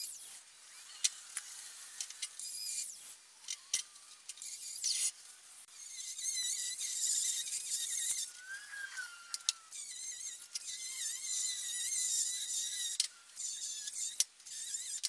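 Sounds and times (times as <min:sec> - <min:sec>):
angle grinder grinding steel: 0:00.0 - 0:15.0.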